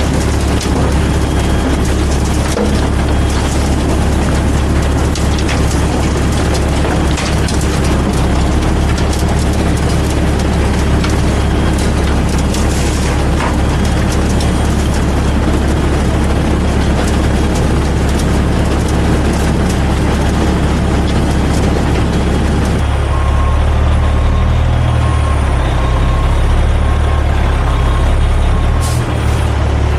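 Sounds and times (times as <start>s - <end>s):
diesel engine drone: 0.0s - 29.9s.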